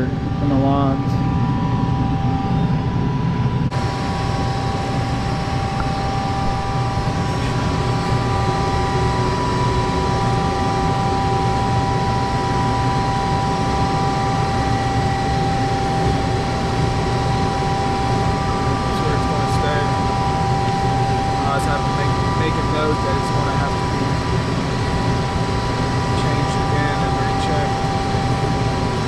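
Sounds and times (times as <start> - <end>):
machine motor droning: 0.0 - 29.0
steady whine: 0.0 - 29.0.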